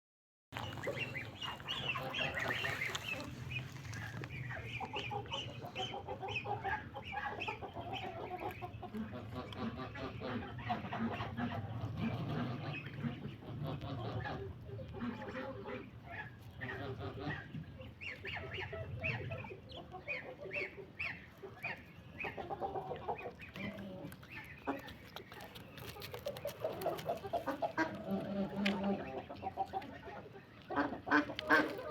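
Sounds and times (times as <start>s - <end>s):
chickens clucking: 0.6s - 31.9s.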